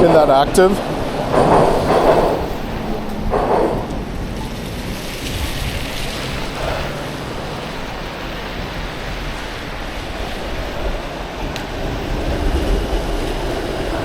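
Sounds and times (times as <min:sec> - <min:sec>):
city traffic rush: 0:00.0 - 0:14.0
wind: 0:00.0 - 0:14.0.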